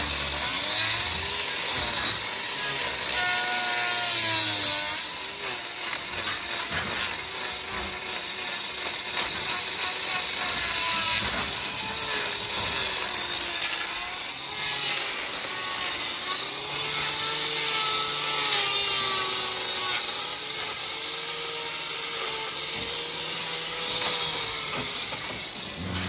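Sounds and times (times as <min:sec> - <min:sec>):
power tool sawing: 0:00.0 - 0:26.0.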